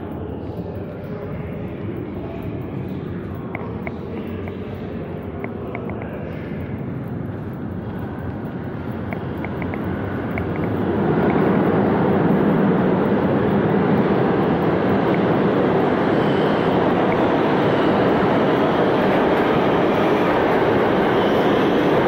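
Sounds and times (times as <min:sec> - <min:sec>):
subway train running: 0:00.0 - 0:22.0.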